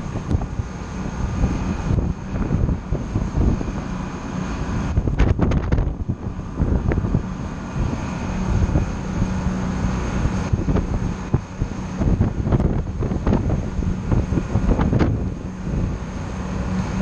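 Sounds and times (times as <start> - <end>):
boat engines droning: 0.0 - 17.0
wind buffeting the microphone: 0.0 - 17.0.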